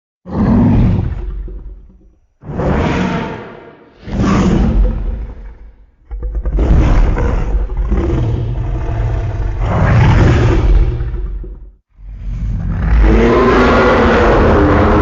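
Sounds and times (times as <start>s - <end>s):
deep monster roars: 0.3s - 1.8s, 2.4s - 15.0s.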